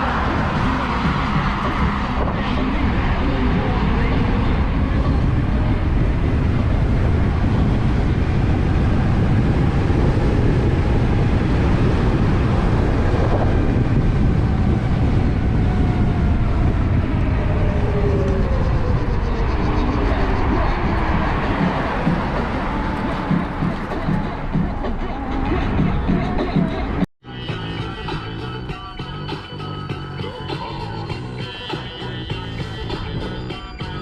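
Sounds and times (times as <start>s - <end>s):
wind noise: 0.0s - 29.2s
road noise: 0.0s - 34.0s.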